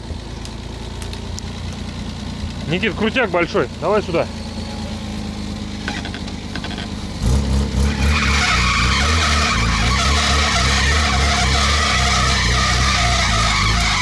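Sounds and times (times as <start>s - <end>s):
car engine revving: 1.0s - 14.0s.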